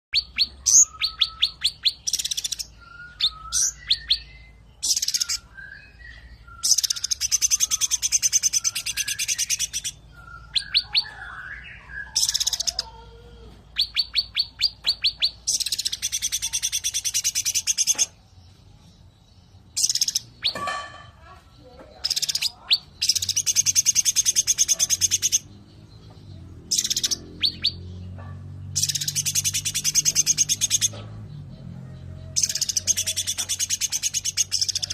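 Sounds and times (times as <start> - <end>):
songbird rapid trilling song: 0.1 - 34.9.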